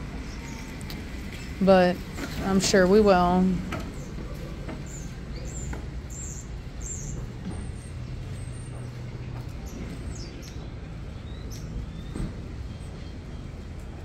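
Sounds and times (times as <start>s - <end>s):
low rumble of vehicle traffic: 0.0s - 14.0s.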